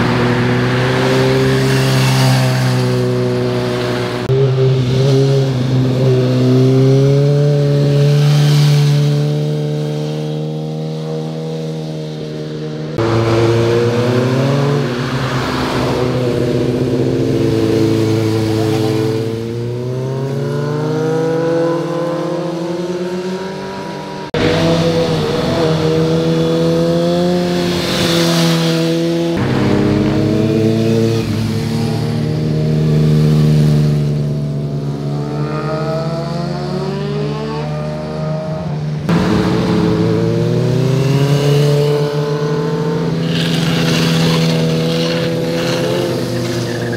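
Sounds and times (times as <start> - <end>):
motorcycle engines revving: 0.0 - 46.9.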